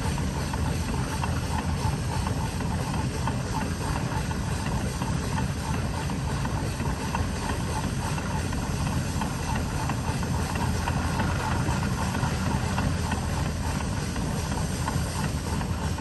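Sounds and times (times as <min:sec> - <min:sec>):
steam engine working: 0:00.0 - 0:16.0.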